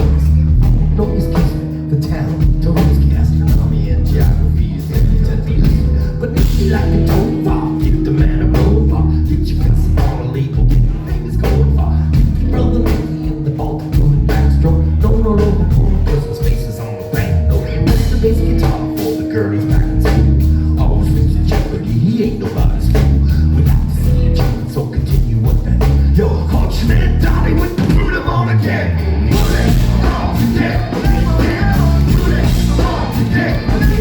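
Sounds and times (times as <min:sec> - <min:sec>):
bass guitar: 0:00.0 - 0:34.0
drum kit: 0:00.0 - 0:34.0
electric guitar: 0:00.0 - 0:34.0
person singing: 0:00.0 - 0:34.0.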